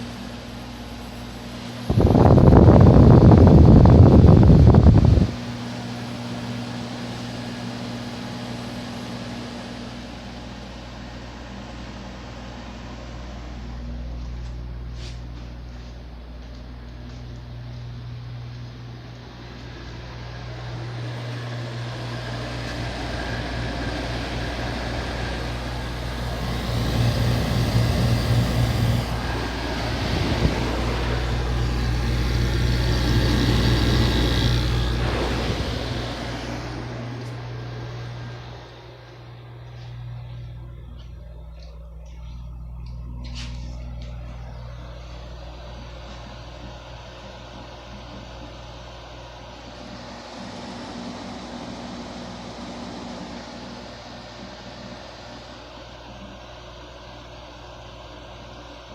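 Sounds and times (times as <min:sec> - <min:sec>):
fan air rushing: 0:00.0 - 0:58.9
low electric hum: 0:00.0 - 0:58.9.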